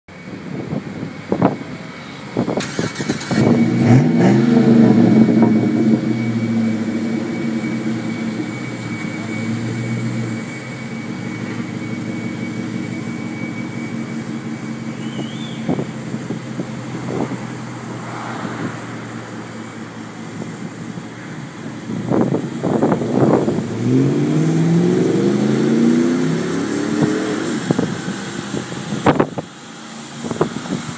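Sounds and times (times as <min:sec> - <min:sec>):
car engine starting and revving: 0:02.4 - 0:30.9.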